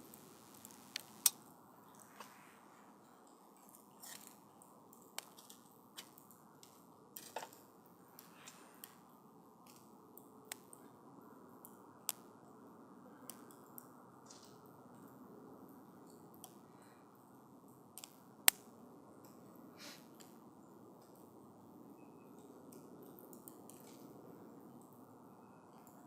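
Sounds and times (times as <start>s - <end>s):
campfire crackling: 0.0s - 21.8s, 22.4s - 26.0s.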